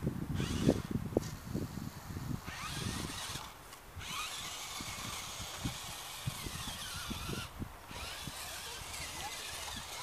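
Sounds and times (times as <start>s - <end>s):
small electric motor whining: 0.3s - 10.0s.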